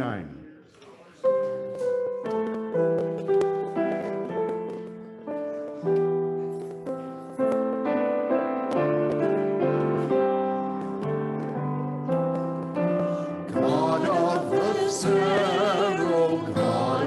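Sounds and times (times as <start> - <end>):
piano playing slow chords: 1.2 - 17.0.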